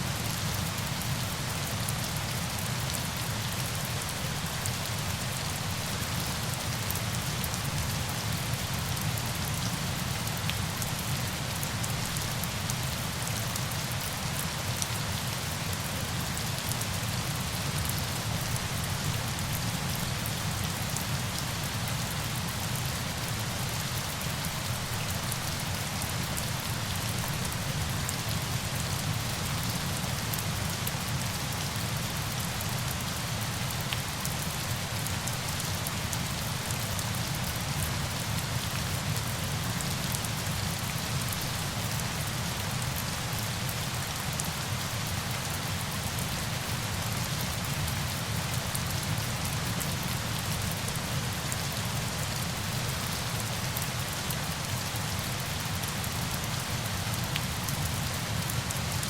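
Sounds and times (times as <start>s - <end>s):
steady falling water: 0.0s - 59.0s.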